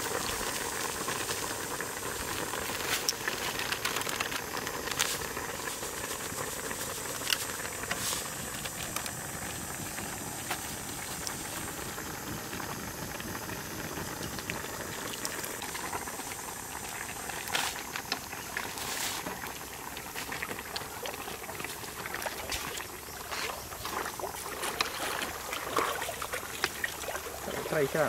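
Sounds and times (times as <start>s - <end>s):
soup bubbling in a pan: 0.0s - 28.0s.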